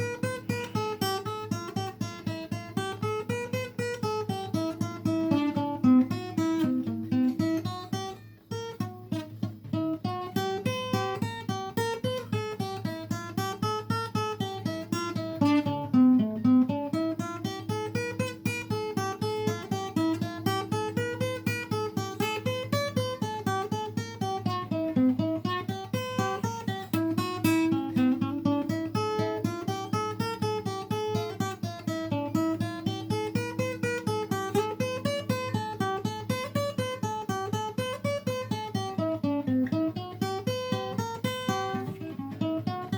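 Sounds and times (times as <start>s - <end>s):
acoustic guitar picking: 0.0s - 42.9s.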